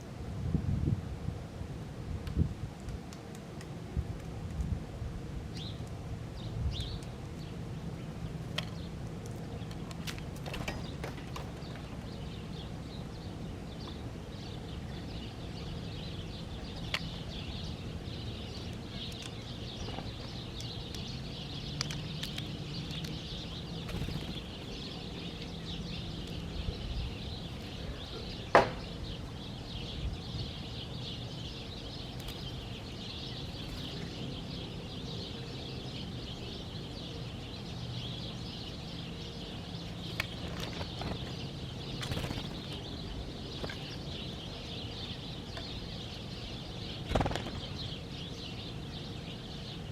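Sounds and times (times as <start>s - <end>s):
low background hum: 0.0s - 49.9s
small birds chirping: 5.4s - 49.9s.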